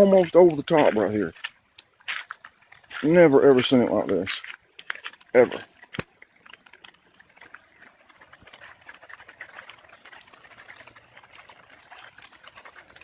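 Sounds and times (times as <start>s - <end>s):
floodwater running: 0.0s - 13.0s
ticking water drops: 0.0s - 13.0s.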